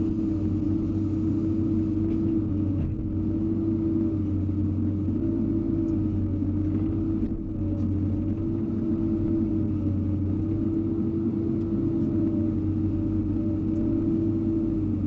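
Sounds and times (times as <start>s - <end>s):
excavator diesel engine rumbling: 0.0s - 15.0s.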